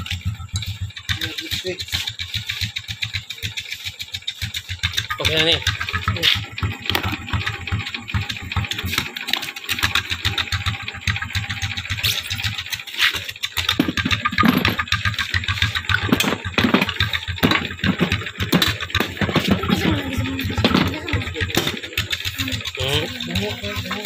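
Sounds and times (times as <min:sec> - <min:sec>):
small motorcycle engine idling: 0:00.0 - 0:24.0.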